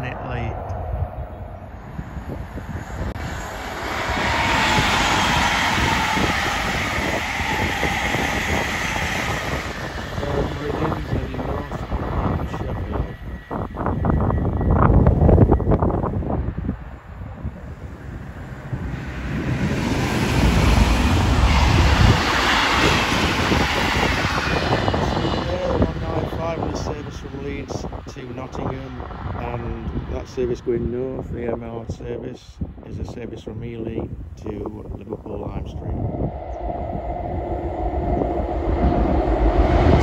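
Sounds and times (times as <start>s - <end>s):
high whine: 0.0s - 30.0s, 35.2s - 40.0s
train passing at speed: 0.0s - 31.0s, 34.0s - 40.0s
wind buffeting microphone: 0.0s - 40.0s
wheels rumbling on rail: 0.9s - 30.1s, 34.0s - 40.0s.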